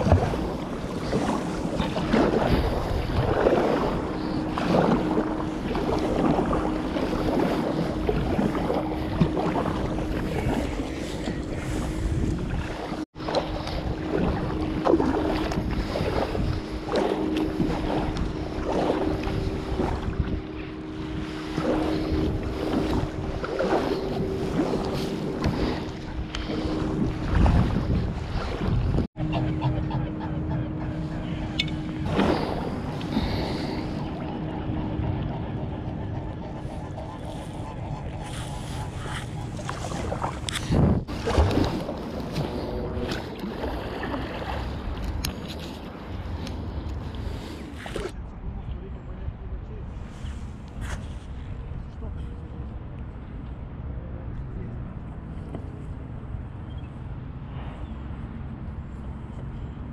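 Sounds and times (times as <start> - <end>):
paddle strokes splashing: 0.0 - 48.2
steady low hum: 0.0 - 59.9
steady low rumble: 0.0 - 59.9
wind buffeting microphone: 0.0 - 59.9.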